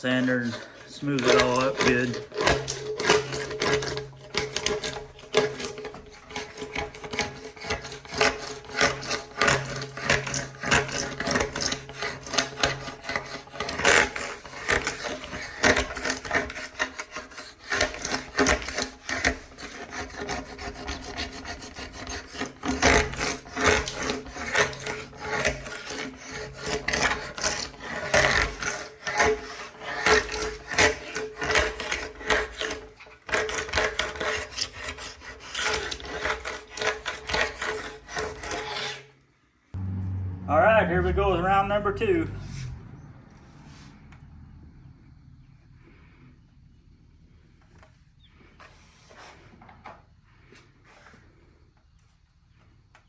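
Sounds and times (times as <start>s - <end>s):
metal scraper scraping wood: 0.0s - 39.3s, 47.6s - 51.6s.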